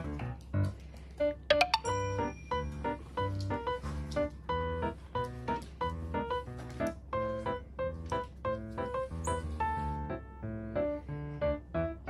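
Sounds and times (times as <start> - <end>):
light keyboard tune: 0.0 - 12.0.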